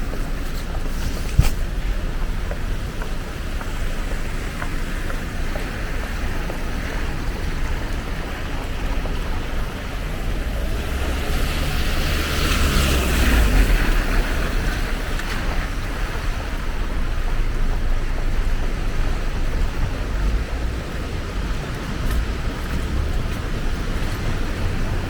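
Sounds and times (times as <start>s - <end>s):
steady rain falling: 0.0s - 25.0s
vehicle passing on wet road: 0.1s - 25.0s.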